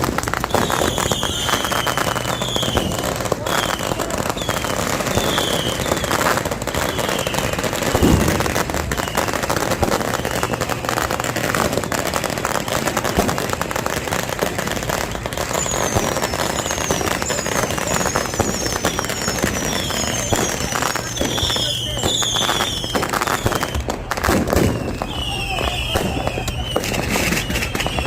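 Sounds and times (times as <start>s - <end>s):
firework bang: 0.0s - 28.0s
firework whistles: 0.0s - 28.0s
fireworks crackling: 0.0s - 28.0s.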